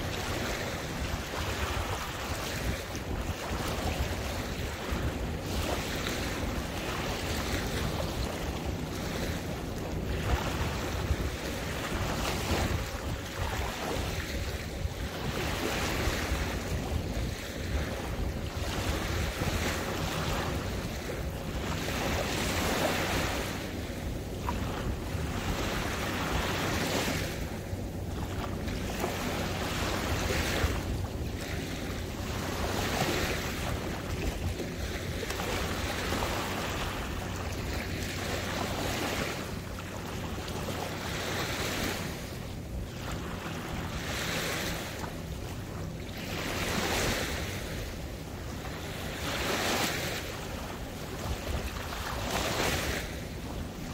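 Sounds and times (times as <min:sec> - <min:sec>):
small waves lapping: 0:00.0 - 0:53.9
wind rumbling on microphone: 0:00.0 - 0:53.9.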